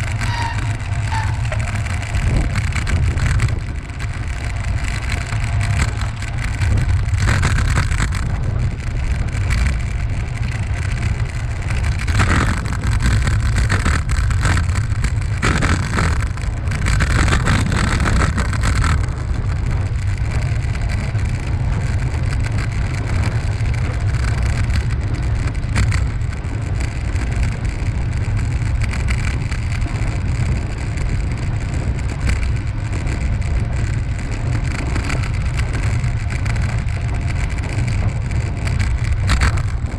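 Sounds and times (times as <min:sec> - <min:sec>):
tyre and path noise: 0:00.0 - 0:39.9
wind buffeting microphone: 0:00.0 - 0:39.9.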